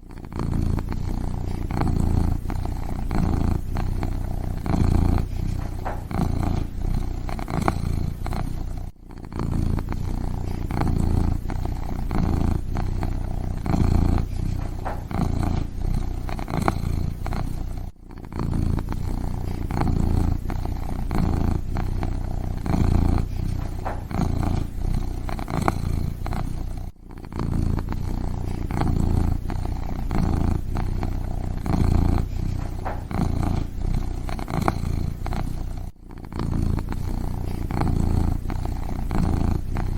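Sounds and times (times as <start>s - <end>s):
kitten purring: 0.0s - 39.9s.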